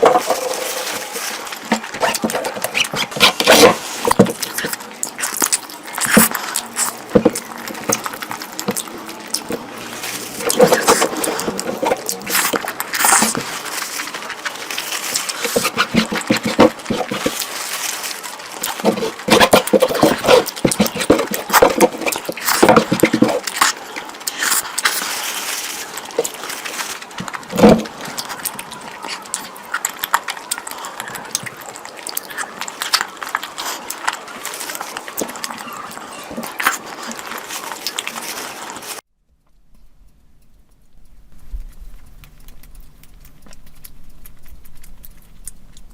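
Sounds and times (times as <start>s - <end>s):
person chewing food: 0.0s - 39.1s, 39.8s - 45.9s.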